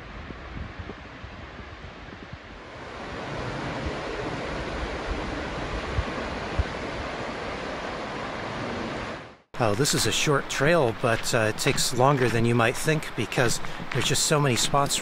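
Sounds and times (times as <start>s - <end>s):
river rushing: 2.6s - 15.0s.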